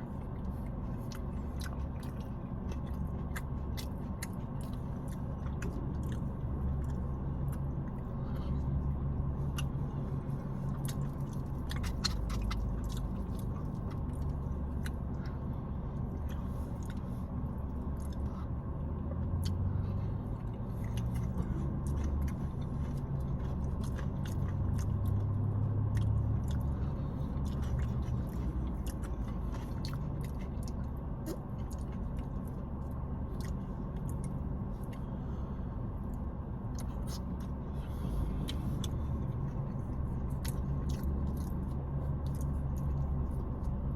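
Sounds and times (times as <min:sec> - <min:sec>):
person chewing and biting food: 0:00.0 - 0:43.9
steady low hum: 0:00.0 - 0:43.9.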